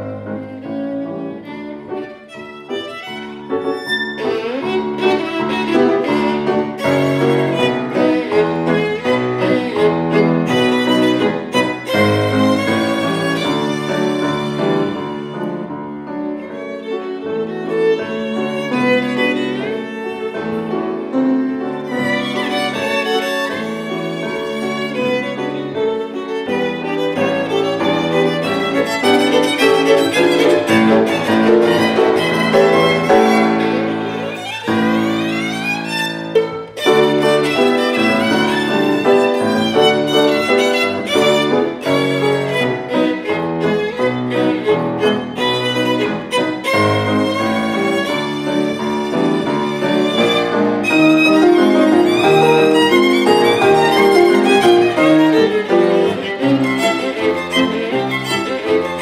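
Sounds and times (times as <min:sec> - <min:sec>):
piano: 0:00.0 - 0:59.0
violin: 0:00.0 - 0:59.0.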